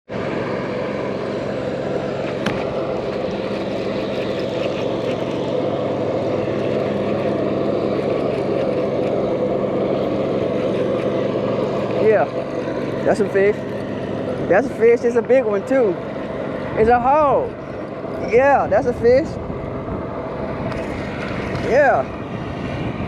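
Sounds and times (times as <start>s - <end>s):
steady motor drone: 0.0s - 23.0s.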